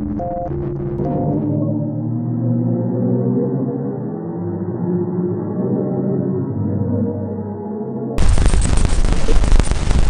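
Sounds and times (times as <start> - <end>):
eerie low electronic drone: 0.0 - 10.0.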